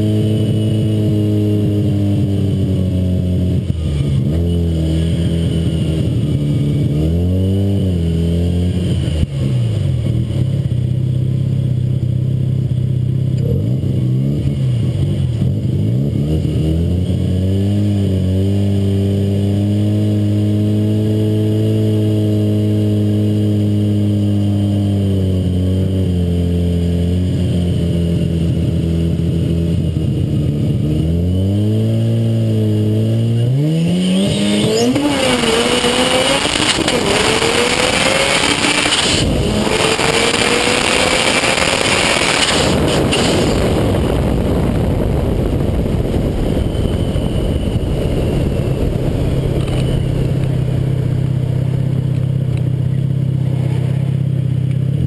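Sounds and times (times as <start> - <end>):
car engine revving and accelerating: 0.0 - 11.6, 12.2 - 55.0
wind and road rush: 0.0 - 55.0.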